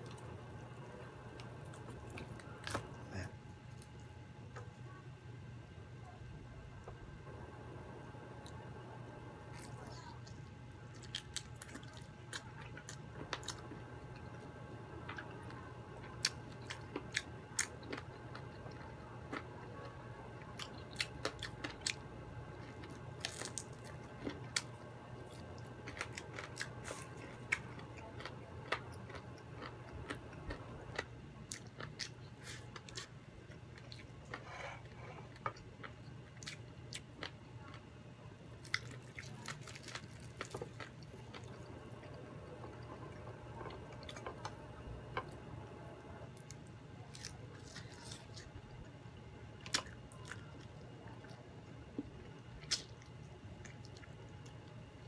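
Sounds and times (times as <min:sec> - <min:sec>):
crunchy chewing of fried chicken: 0:00.0 - 0:04.7, 0:09.4 - 0:55.0
steady low hum: 0:00.0 - 0:55.0.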